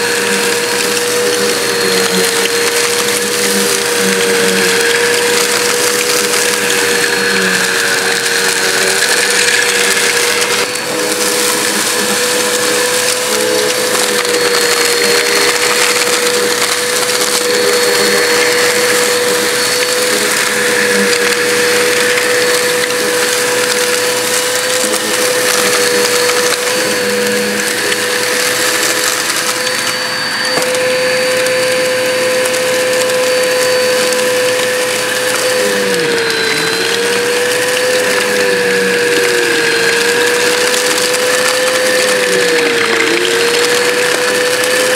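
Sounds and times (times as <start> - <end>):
vacuum cleaner motor whine: 0.0 - 44.9.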